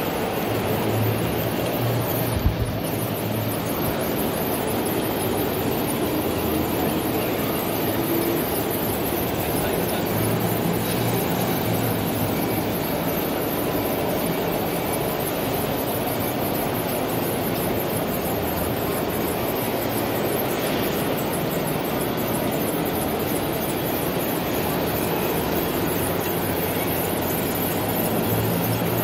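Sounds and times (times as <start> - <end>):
exhibition hall din: 0.0 - 29.0.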